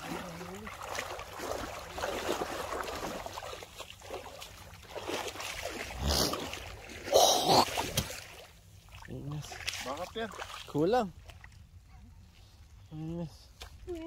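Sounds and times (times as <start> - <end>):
water sloshing and splashing: 0.0 - 12.9, 13.5 - 14.0.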